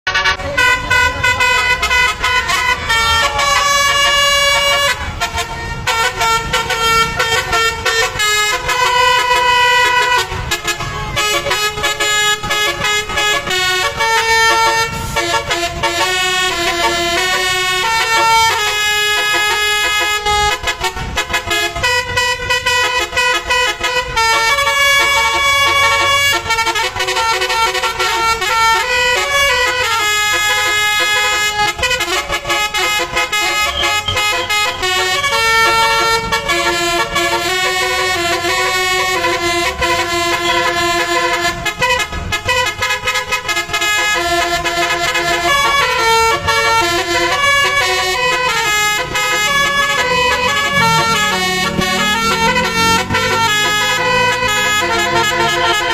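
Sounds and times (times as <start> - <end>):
multi-tone bus horn melody: 0.0 - 55.9.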